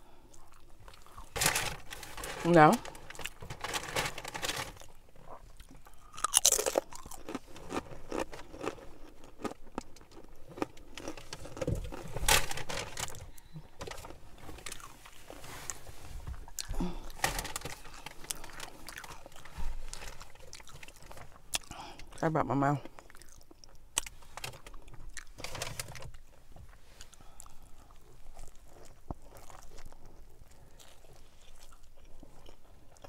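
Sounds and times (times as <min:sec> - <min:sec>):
person chewing food: 0:00.0 - 0:01.4, 0:04.8 - 0:12.2, 0:13.2 - 0:22.2, 0:22.8 - 0:25.4, 0:26.1 - 0:33.0.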